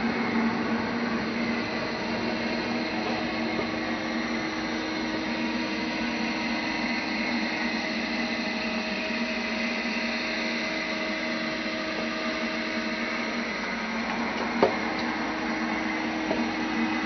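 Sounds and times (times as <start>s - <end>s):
ventilation fans whirring: 0.0s - 17.0s.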